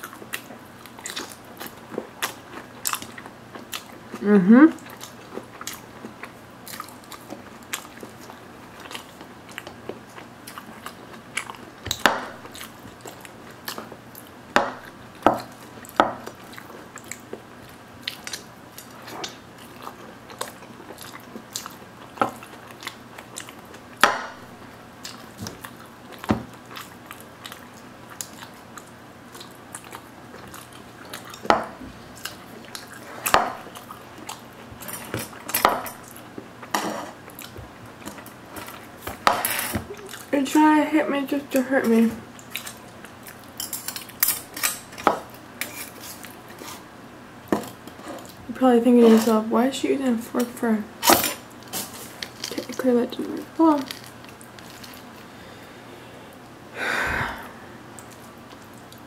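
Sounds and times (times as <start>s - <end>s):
person chewing crispy bread: 0.0s - 40.4s, 42.2s - 48.5s, 51.2s - 56.5s, 57.3s - 59.0s.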